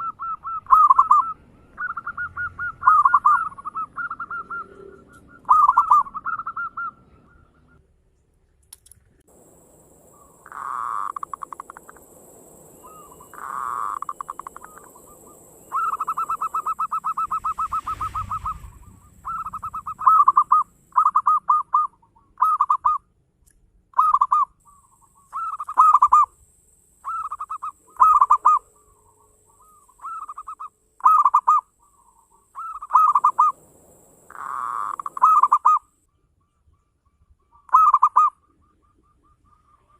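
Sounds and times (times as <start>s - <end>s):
dove cooing: 0.0s - 7.8s, 9.4s - 23.0s, 24.0s - 26.3s, 27.0s - 35.9s, 37.6s - 39.9s.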